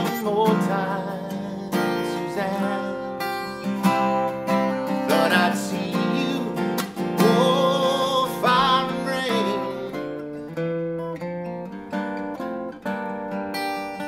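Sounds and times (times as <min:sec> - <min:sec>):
acoustic guitar chords strummed: 0:00.0 - 0:14.0.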